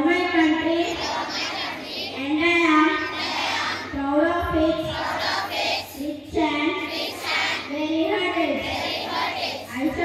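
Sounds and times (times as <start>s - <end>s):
children reciting in unison: 0.3s - 10.0s.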